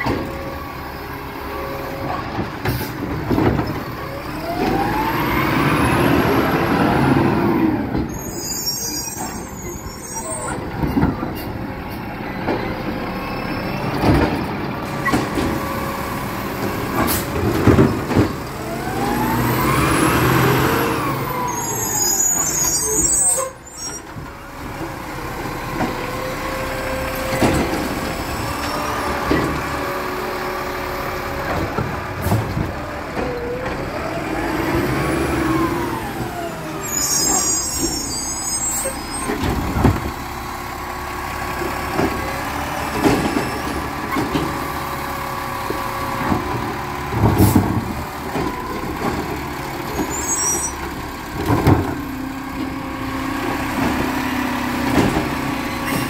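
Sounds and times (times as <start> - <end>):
garbage truck engine whining: 0.0 - 56.0.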